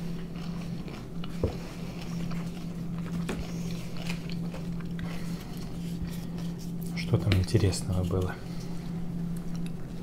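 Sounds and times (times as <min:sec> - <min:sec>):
people chewing food: 0:00.0 - 0:10.0
steady low hum: 0:00.0 - 0:10.0.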